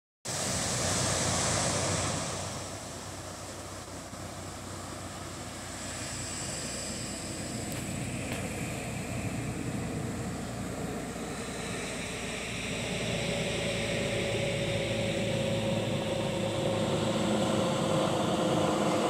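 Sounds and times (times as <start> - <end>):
surf washing on beach: 0.3 - 19.0
wave crashing: 0.3 - 19.0.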